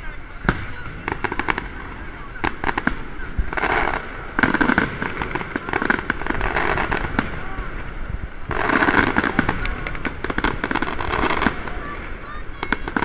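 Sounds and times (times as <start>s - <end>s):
firework bangs and pops: 0.4s - 13.0s.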